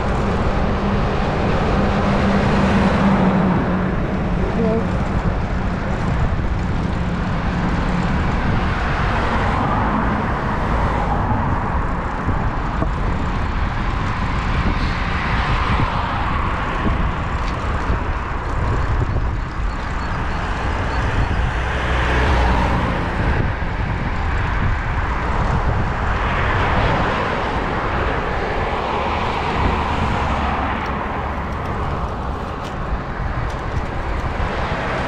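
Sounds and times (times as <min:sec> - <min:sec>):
cars passing on road: 0:00.0 - 0:35.0.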